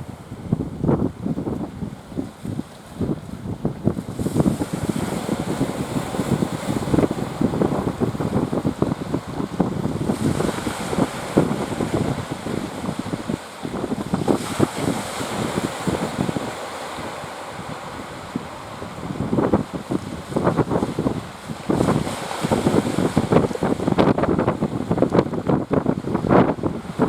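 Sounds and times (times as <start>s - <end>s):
sea surf: 0.0s - 27.0s
wind buffeting microphone: 0.0s - 27.0s.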